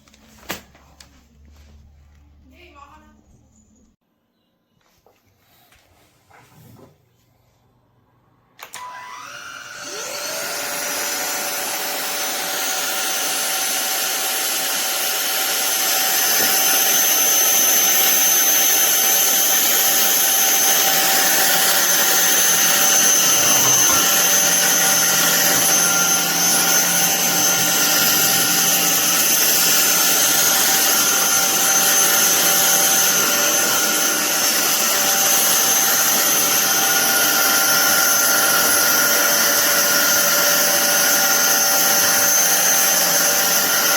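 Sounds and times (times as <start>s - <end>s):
vacuum cleaner motor whine: 8.6s - 43.9s.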